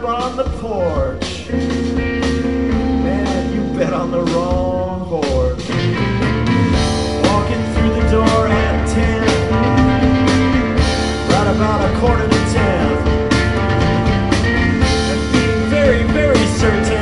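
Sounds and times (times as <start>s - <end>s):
drum and cymbal hits: 0.0s - 17.0s
rock band playing: 0.0s - 17.0s.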